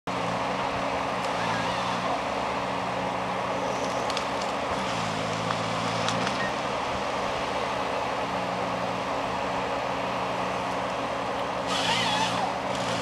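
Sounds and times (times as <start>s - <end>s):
diesel engine running: 0.1s - 13.0s.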